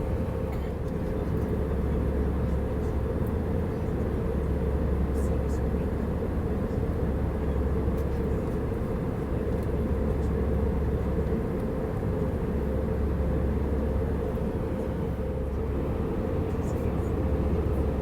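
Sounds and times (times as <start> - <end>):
airplane cabin drone: 0.0 - 18.0.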